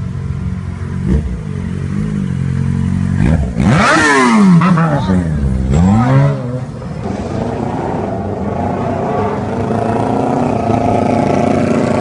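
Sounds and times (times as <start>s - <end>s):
motorcycle engine revving: 0.5s - 12.0s.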